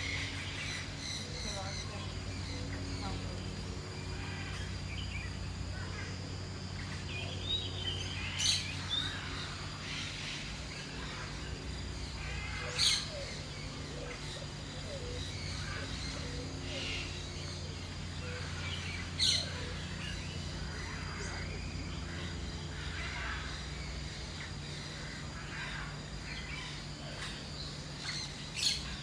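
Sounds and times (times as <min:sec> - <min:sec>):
birds calling and chirping: 0:00.0 - 0:29.0
steady low hum: 0:00.0 - 0:29.0.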